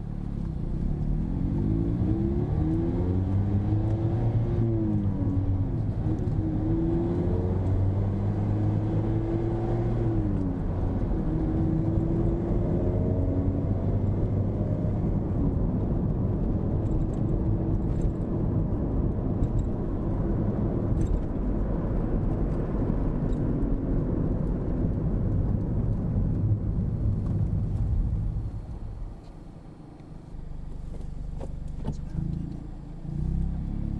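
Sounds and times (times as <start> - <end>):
car engine accelerating: 0.0 - 33.9
low road rumble: 0.0 - 33.9.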